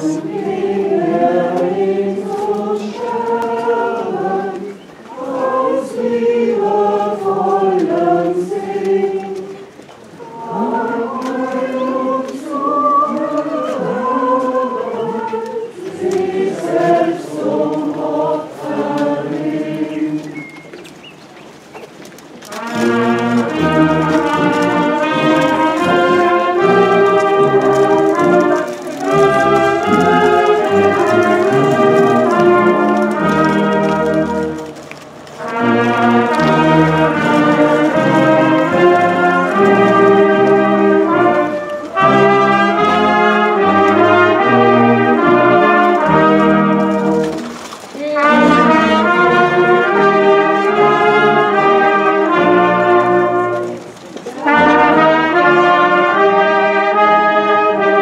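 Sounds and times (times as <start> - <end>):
brass band playing: 0.0 - 9.5, 10.2 - 20.2, 22.4 - 58.0
crowd singing a hymn: 0.0 - 20.7, 22.5 - 58.0.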